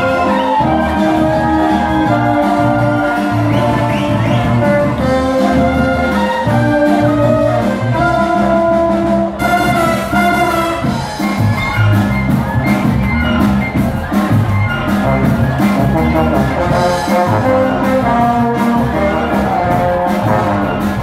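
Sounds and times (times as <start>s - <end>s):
brass chords and melody: 0.0s - 21.0s
cymbals and drums beat: 0.0s - 21.0s
low bass notes: 0.0s - 21.0s.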